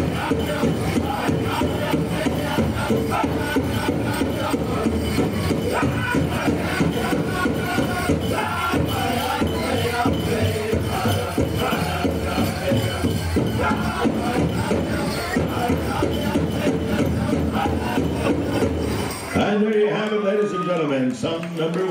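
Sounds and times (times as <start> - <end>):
big drum steady beat: 0.0 - 19.0
group singing: 0.0 - 19.4.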